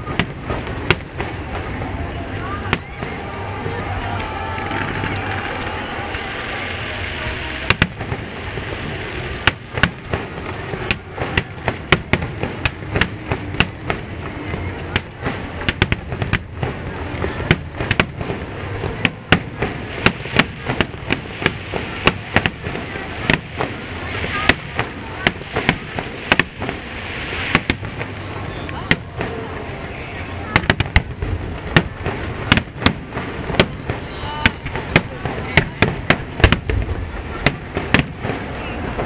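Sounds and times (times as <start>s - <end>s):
fireworks bursting bangs: 0.0s - 39.0s.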